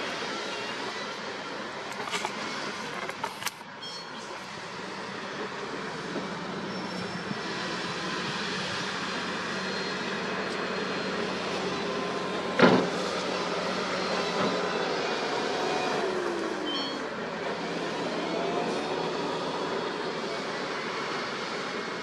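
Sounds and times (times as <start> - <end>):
diesel engines humming: 0.0 - 22.0.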